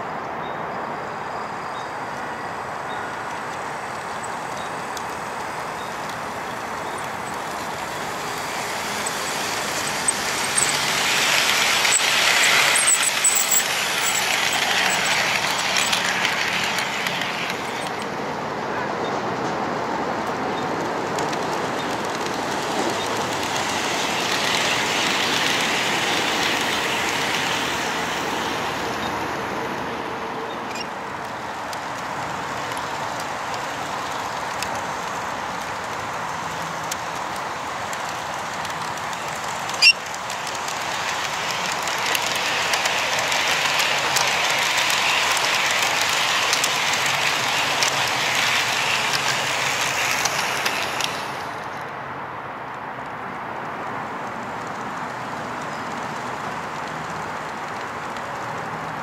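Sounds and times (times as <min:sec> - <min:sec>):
model train wheels rolling on rails: 0:01.0 - 0:52.0, 0:53.0 - 0:59.0.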